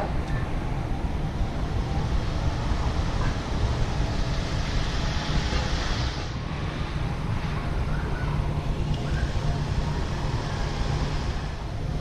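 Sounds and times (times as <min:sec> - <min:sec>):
outdoor rumble: 0:00.0 - 0:12.0.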